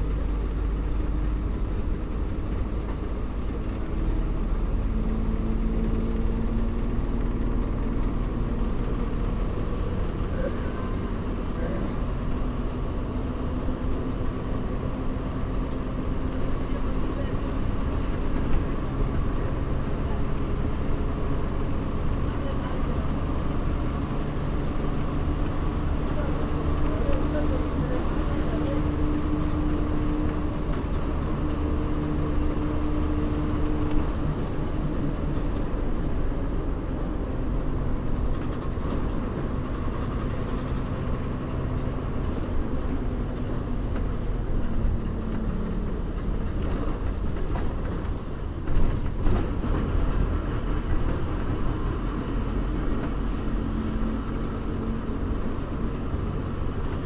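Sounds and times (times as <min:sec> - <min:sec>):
bus engine hum: 0:00.0 - 0:57.0
road rumble: 0:00.0 - 0:57.0.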